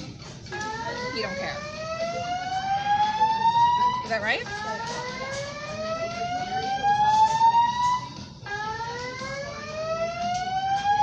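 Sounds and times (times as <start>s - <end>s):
fire alarm whoop tone: 0.5s - 11.0s.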